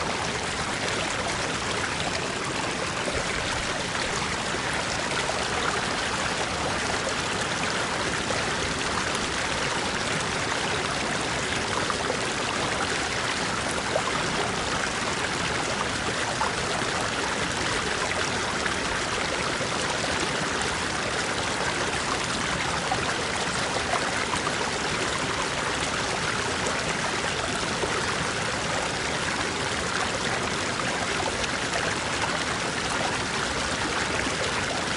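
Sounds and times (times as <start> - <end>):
stream flowing over rocks: 0.0 - 34.9.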